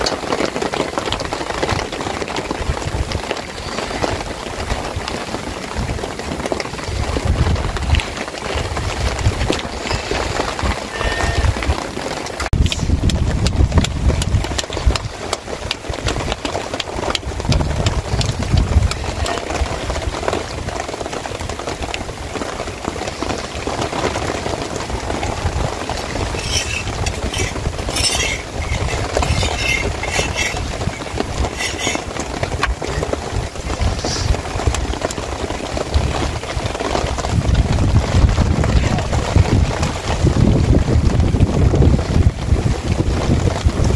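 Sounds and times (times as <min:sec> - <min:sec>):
sharp crackles: 0:00.0 - 0:40.0
wind rumbling on microphone: 0:00.0 - 0:43.9.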